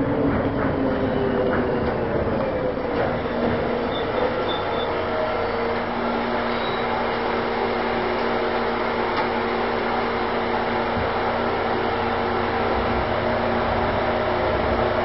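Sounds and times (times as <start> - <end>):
trolleybus electric whir: 0.0 - 15.0.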